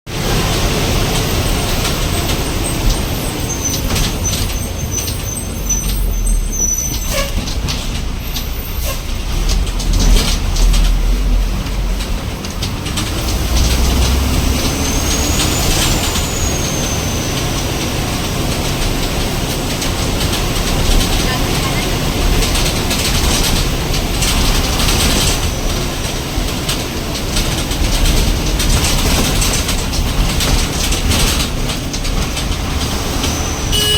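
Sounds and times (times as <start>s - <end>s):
bus engine rumble: 0.1s - 33.9s.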